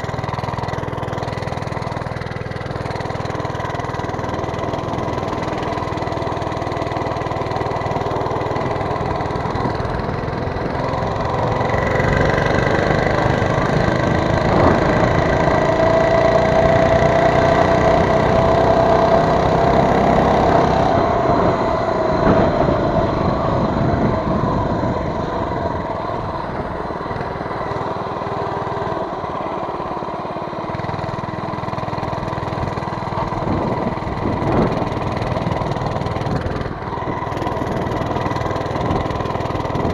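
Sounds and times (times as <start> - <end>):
mini bike engine revving: 0.0 - 39.9.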